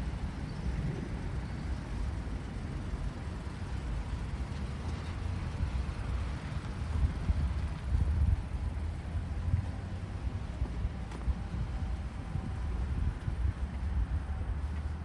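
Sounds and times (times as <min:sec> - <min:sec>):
street low rumble: 0:00.0 - 0:15.0.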